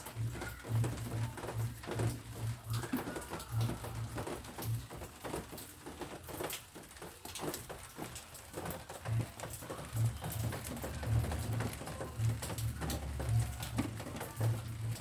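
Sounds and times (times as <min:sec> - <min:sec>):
rain pattering on plants: 0:00.0 - 0:15.0.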